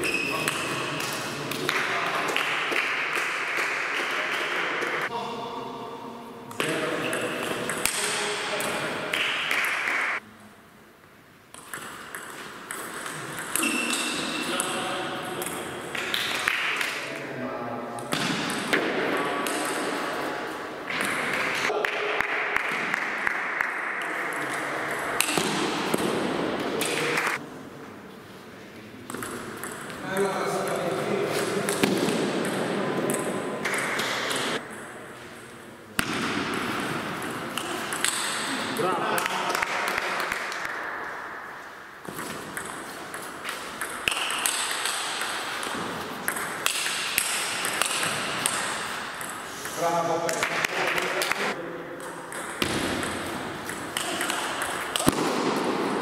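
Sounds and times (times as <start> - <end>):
steady background noise: 0.0 - 56.0.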